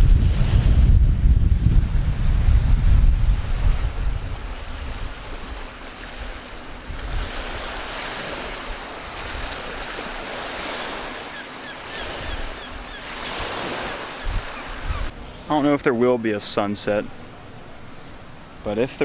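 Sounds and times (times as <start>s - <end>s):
wind gusts on microphone: 0.0s - 15.5s
steady rushing wind: 0.0s - 19.0s.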